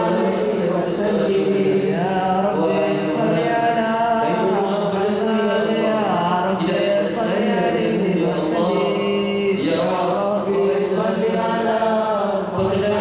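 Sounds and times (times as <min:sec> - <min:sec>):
men chanting into microphones: 0:00.0 - 0:13.0.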